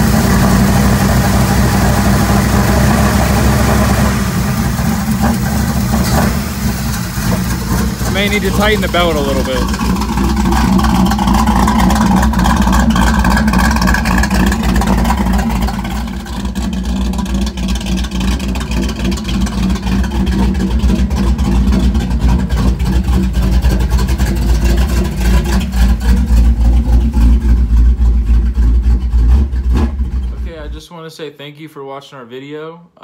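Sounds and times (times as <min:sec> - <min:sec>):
truck engine idling: 0:00.0 - 0:30.7.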